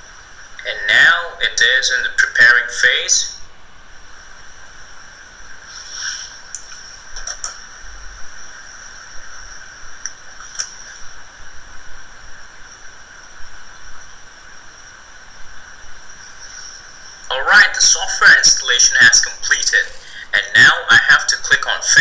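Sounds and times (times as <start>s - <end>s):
high background hiss: 0.0s - 22.0s.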